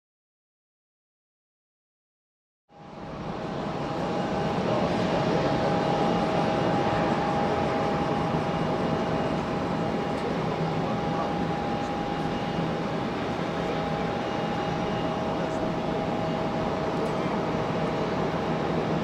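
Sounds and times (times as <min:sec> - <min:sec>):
jet engine whining tones: 0:02.8 - 0:19.0
jet engines rushing: 0:02.8 - 0:19.0.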